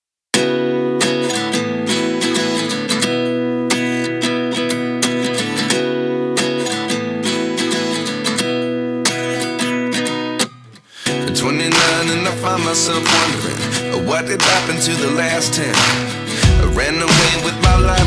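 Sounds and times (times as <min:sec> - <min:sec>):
strummed acoustic guitar: 0:00.3 - 0:18.0.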